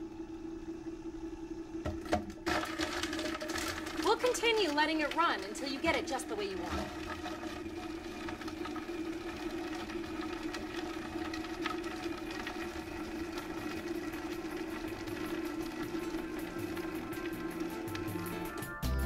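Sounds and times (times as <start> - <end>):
blender chopping onion: 1.4 - 18.7.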